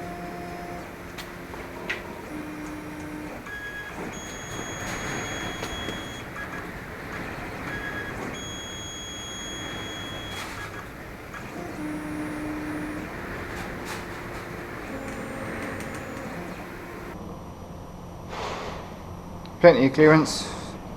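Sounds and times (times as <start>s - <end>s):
stepper motors whining: 0.0s - 17.2s.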